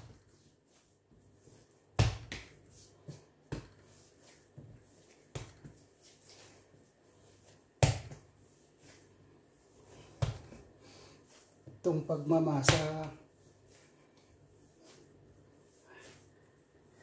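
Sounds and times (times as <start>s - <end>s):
dough being kneaded by hand: 0.0s - 16.8s.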